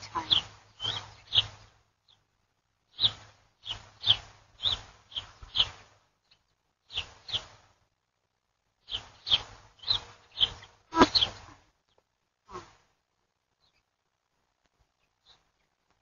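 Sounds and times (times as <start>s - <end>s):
small bird chirping: 0.0s - 7.7s, 8.8s - 12.8s, 13.6s - 14.0s, 14.9s - 15.8s.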